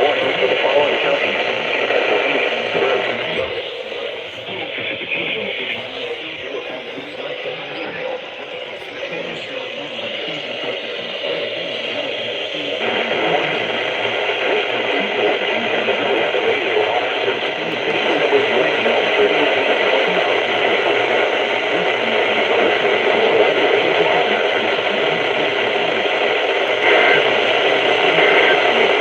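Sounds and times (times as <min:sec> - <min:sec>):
radio static hiss: 0:00.0 - 0:29.0.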